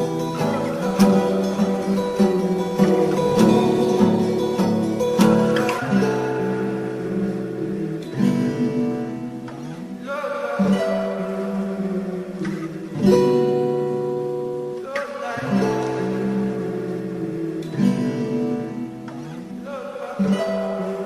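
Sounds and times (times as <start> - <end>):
plucked guitar chords: 0.0 - 21.0.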